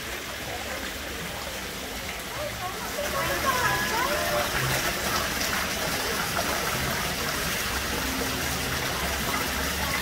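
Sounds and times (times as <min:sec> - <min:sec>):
water pouring into pond: 0:00.0 - 0:10.0.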